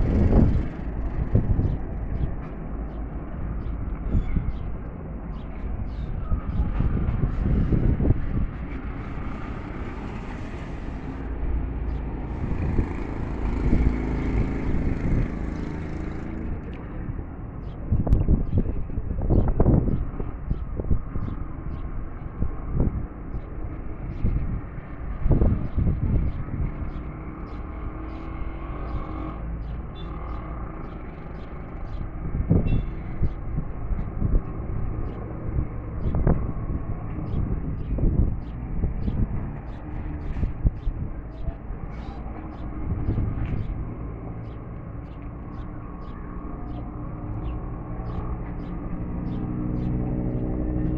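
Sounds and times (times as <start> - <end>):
vehicle low rumble: 0.0 - 50.9
wind buffeting microphone: 0.0 - 50.9.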